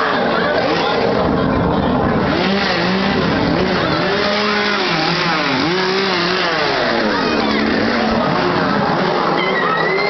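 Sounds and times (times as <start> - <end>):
chainsaw revving: 0.5 - 9.2.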